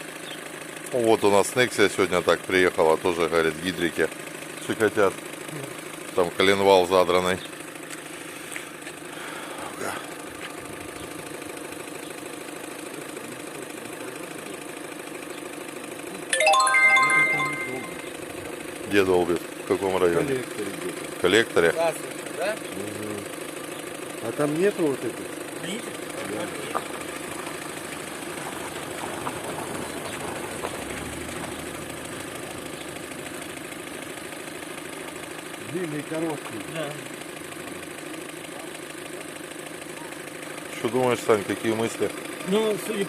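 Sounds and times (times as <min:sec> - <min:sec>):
car engine idling: 0:00.0 - 0:16.3, 0:18.0 - 0:43.0.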